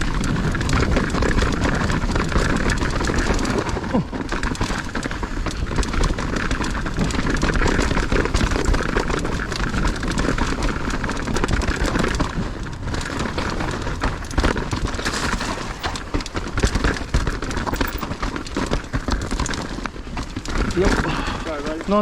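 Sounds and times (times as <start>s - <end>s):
bike tyres rushing on dirt: 0.0s - 22.0s
crackling and rattling over rough ground: 0.0s - 22.0s.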